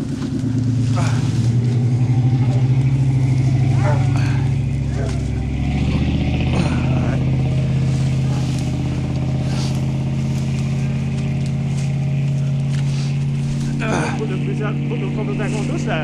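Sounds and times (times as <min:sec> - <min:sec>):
brush rustling: 0:00.0 - 0:16.0
truck engine idling: 0:00.0 - 0:16.0.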